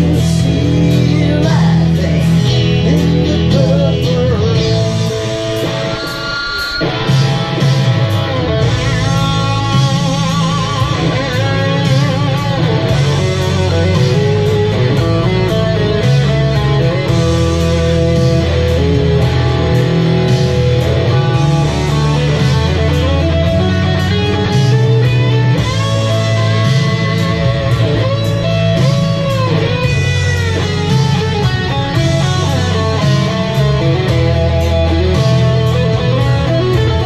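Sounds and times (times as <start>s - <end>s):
bass guitar: 0.0s - 37.0s
drums: 0.0s - 37.0s
electric guitar solo: 0.0s - 37.0s.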